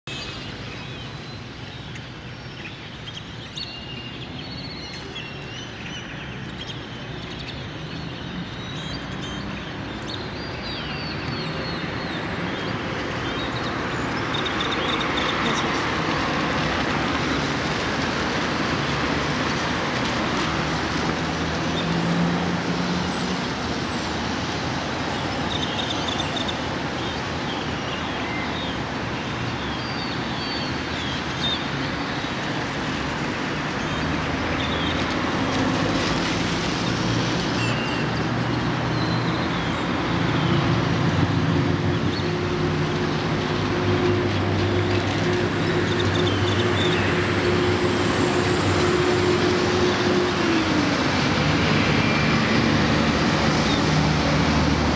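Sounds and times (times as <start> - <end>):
street traffic engine hum: 0.1 - 54.9.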